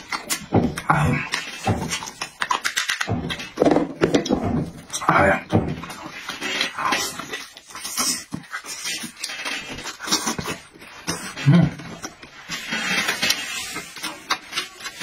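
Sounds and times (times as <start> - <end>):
wet chewing and lip-smacking: 0.0 - 5.0, 5.8 - 15.0.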